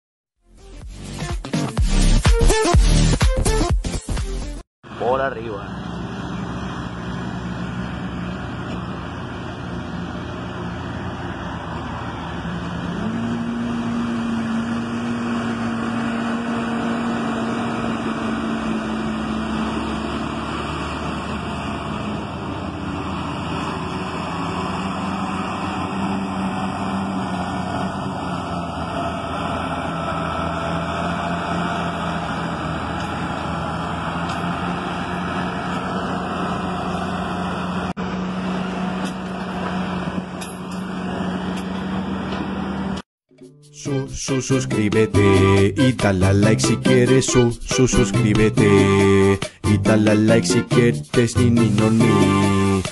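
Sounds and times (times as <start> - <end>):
tractor diesel engine under load: 4.8 - 43.1, 43.9 - 52.9.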